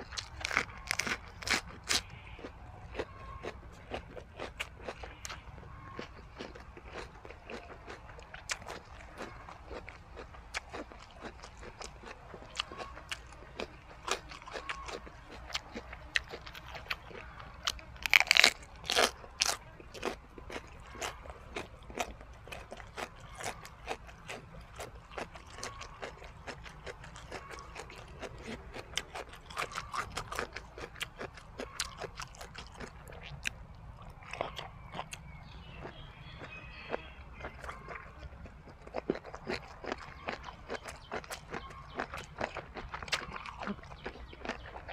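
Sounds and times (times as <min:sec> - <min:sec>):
chewing and crunching food: 0:00.0 - 0:44.9.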